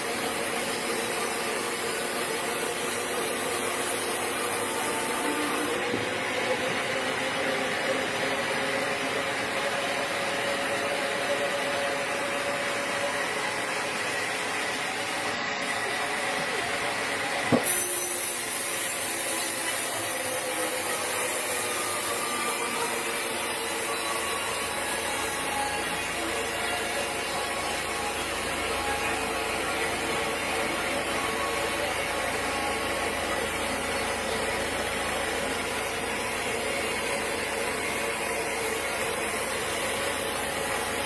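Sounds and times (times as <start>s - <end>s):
sawmill machinery whining: 0.0s - 41.0s.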